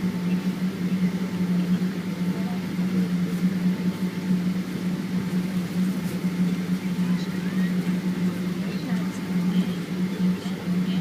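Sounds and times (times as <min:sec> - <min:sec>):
airliner cabin hum: 0:00.0 - 0:11.0
faint thin whine: 0:00.0 - 0:11.0.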